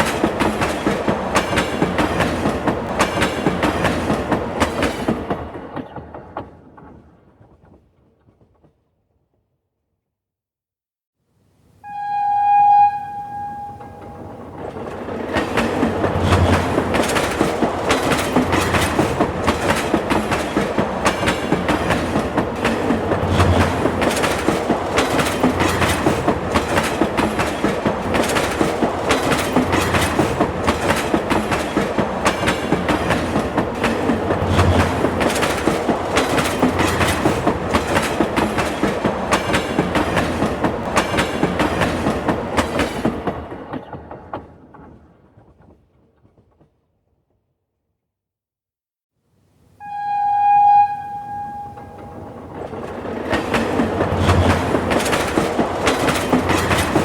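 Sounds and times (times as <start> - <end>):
train wheels clacking on rails: 0.0 - 8.7, 13.4 - 46.8, 51.3 - 57.0.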